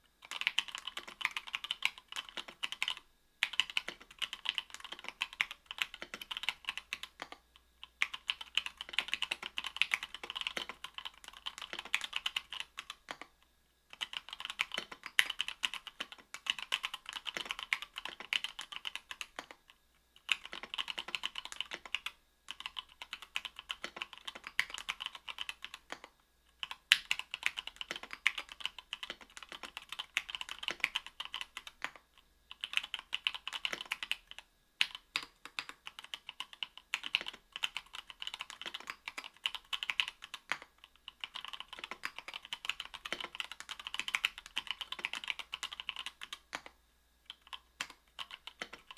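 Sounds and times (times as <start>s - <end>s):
mechanical keyboard typing: 0.2s - 13.3s, 13.9s - 48.9s.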